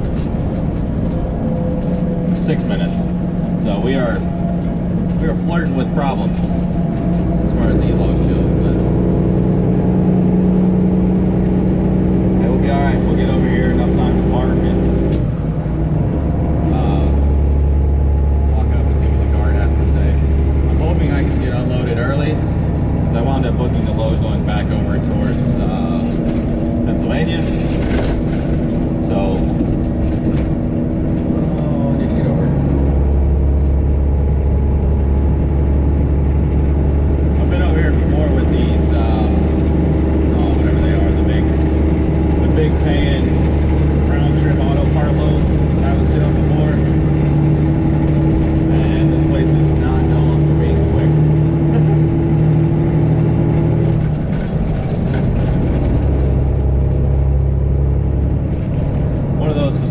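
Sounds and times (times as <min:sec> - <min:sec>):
truck diesel engine drone: 0:00.0 - 0:59.9.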